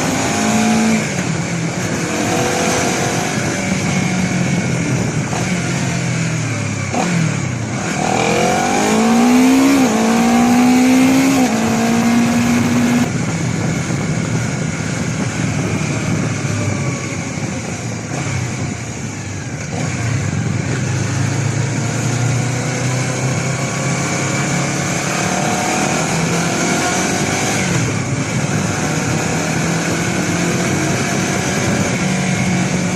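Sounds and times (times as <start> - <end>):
motorcycle engine shifting gears: 0.0 - 32.9
wind noise: 0.0 - 32.9.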